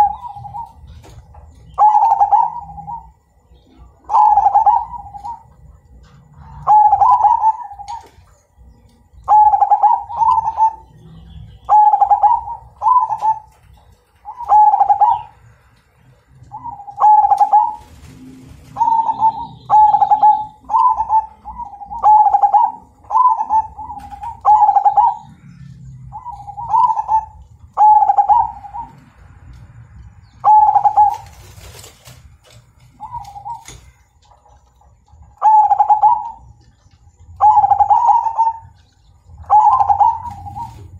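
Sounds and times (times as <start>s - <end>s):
dove cooing: 0.0s - 29.6s, 30.2s - 40.9s.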